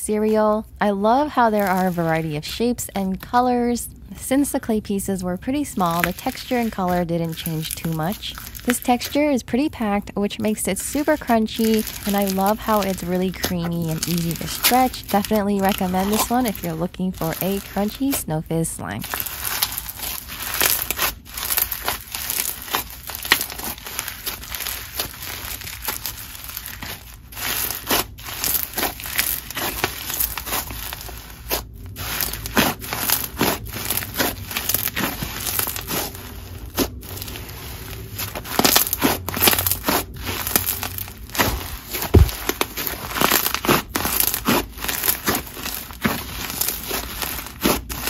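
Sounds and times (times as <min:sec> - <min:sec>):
slime crackling and crunching: 0:00.1 - 0:03.8, 0:05.4 - 0:48.0.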